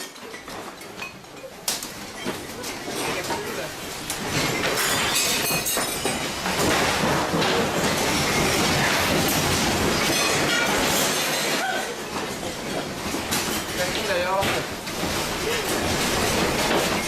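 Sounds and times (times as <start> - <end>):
building contents rattling: 0.0 - 17.0.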